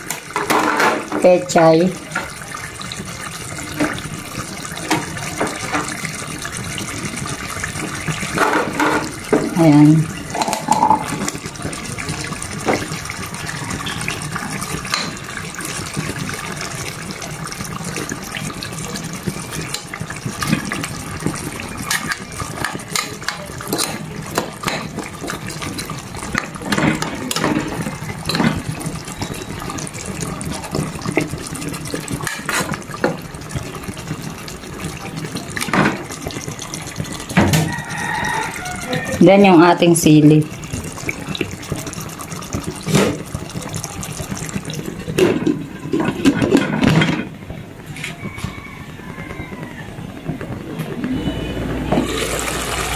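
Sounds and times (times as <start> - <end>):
liquid bubbling in a pot: 0.0 - 52.9.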